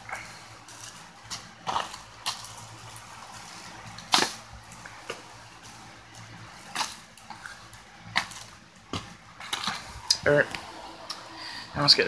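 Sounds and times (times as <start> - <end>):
plastic wrapping crinkling: 0.0 - 10.2.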